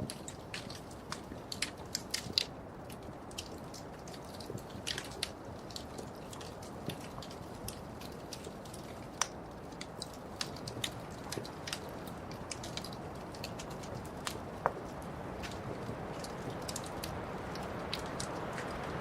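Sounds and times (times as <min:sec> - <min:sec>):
fire crackling and popping: 0:00.0 - 0:19.0
wood fire burning: 0:00.0 - 0:19.0.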